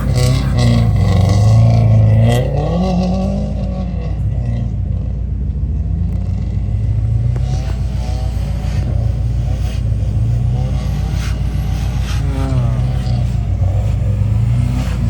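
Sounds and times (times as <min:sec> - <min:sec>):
car engine running under load: 0:00.0 - 0:15.0.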